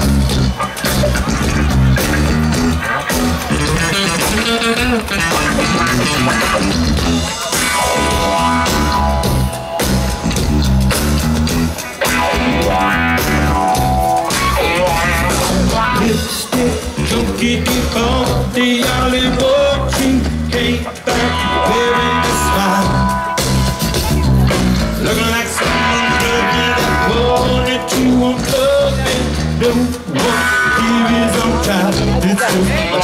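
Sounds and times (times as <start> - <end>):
bass guitar riff: 0.0 - 33.0
drum beat: 0.0 - 33.0
electric guitar: 0.0 - 33.0.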